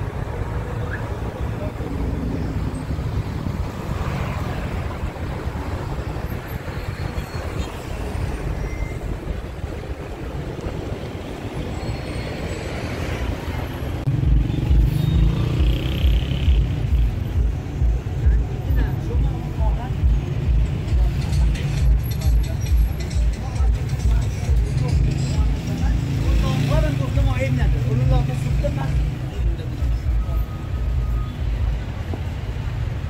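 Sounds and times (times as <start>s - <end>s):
city traffic rumble: 0.0s - 33.0s.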